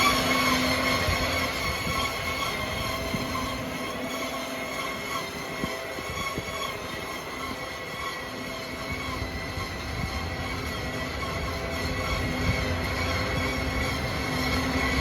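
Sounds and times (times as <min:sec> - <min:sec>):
harvester mechanical rumble: 0:00.0 - 0:15.0
high mechanical whines: 0:00.0 - 0:15.0.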